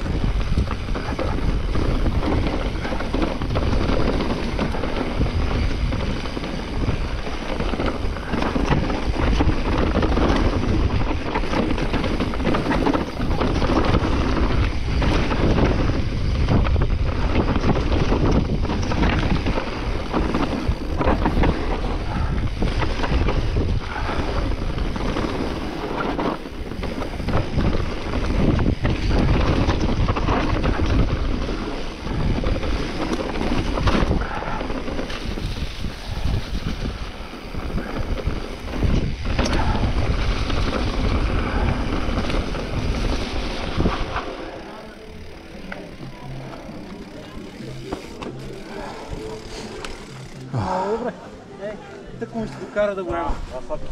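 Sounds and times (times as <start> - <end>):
bike knocks and rattles: 0.0 - 50.5
wind buffeting microphone: 0.0 - 50.6
tyres rumbling on trail: 0.0 - 53.9.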